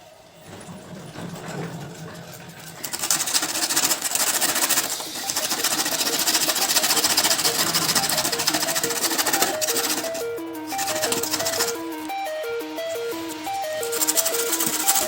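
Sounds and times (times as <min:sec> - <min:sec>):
small motor buzzing rattle: 0:00.0 - 0:15.0.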